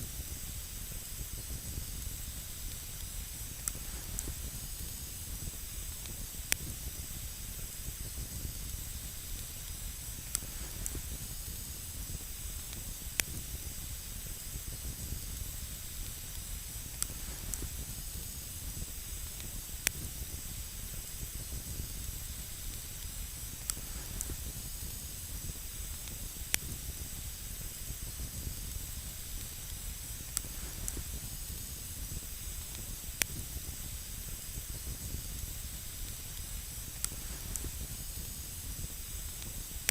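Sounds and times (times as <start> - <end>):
campfire hissing: 0.0 - 39.9
fire crackling pops: 0.0 - 39.9.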